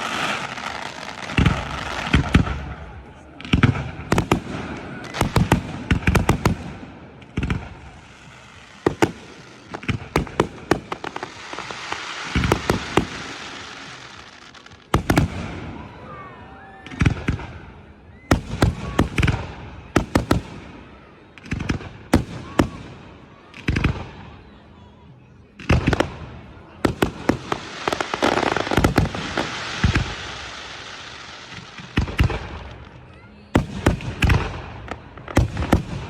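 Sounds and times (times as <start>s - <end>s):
fireworks bangs: 0.0s - 24.3s, 25.6s - 36.0s
fireworks crackling: 0.0s - 24.4s, 25.6s - 36.0s.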